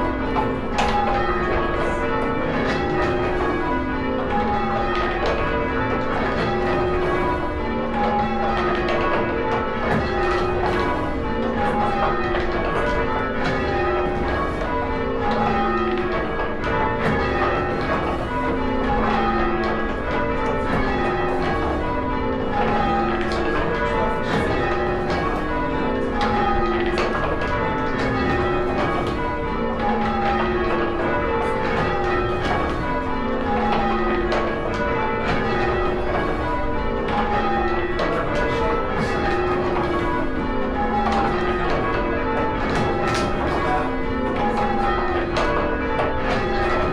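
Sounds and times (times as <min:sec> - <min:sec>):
church bells change ringing: 0:00.0 - 0:46.9.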